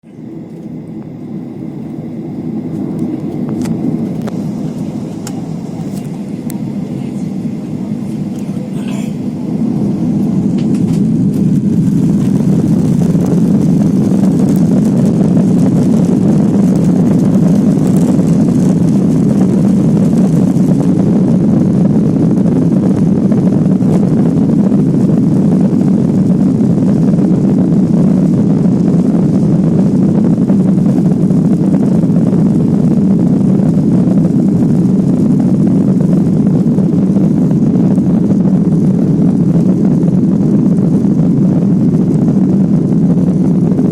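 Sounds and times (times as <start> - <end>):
jet engines rumbling inside cabin: 0.0 - 43.9.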